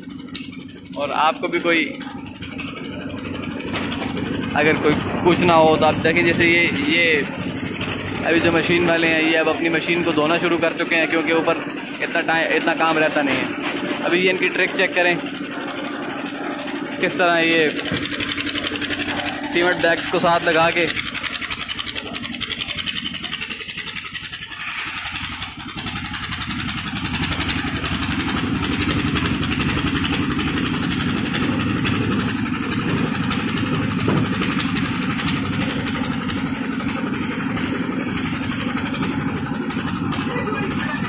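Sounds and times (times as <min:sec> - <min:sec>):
concrete mixer engine running: 0:00.0 - 0:41.0.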